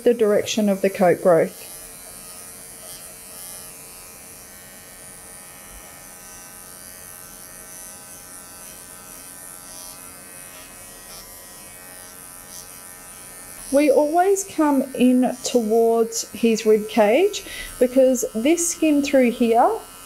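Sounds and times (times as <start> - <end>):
cordless clipper humming: 0.0 - 20.0.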